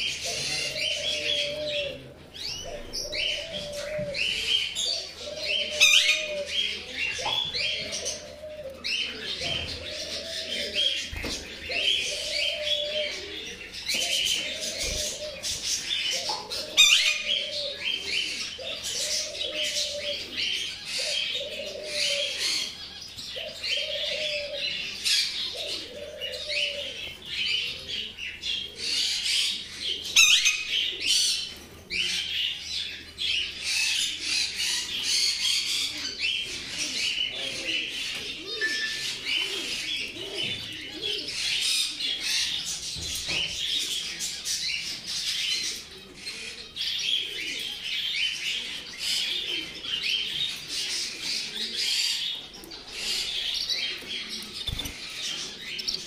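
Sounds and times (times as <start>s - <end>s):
low cooing calls: 0.0s - 56.0s
small birds chirping and twittering: 0.0s - 56.0s.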